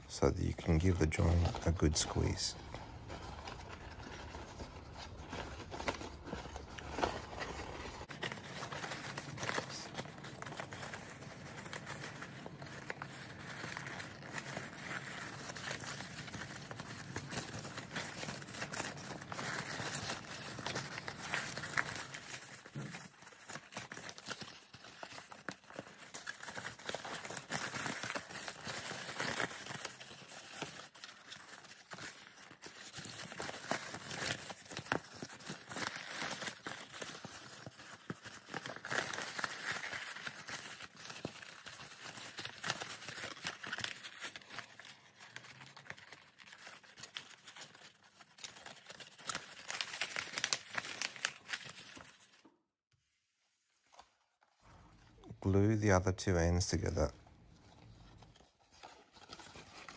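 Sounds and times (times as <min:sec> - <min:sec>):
paper crinkling: 0:00.0 - 0:59.9.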